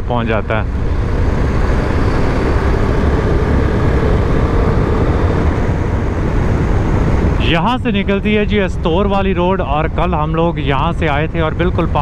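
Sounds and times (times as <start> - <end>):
motorcycle engine drone: 0.0 - 12.0
wind rush: 0.0 - 12.0.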